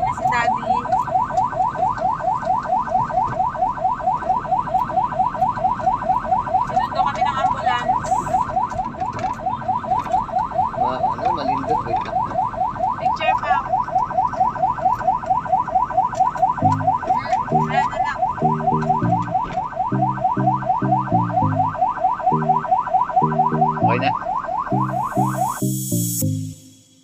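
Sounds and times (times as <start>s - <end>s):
ambulance siren yelping: 0.0s - 27.0s.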